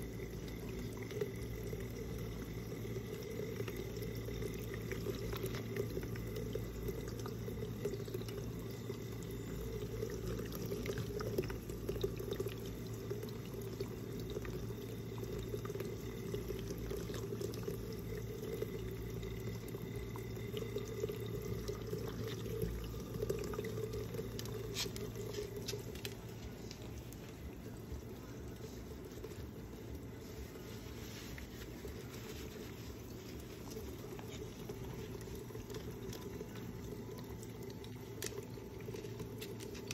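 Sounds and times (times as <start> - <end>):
low steady hum: 0.0 - 39.9
water bubbling and splashing: 0.0 - 39.9.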